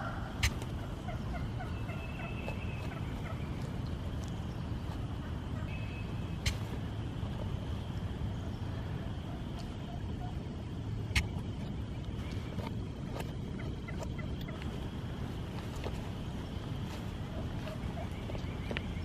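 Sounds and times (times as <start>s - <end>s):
turkey calling: 0.0s - 19.0s.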